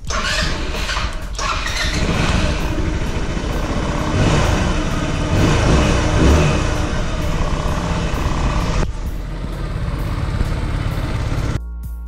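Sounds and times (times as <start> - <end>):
scooter engine revving: 0.0 - 11.6.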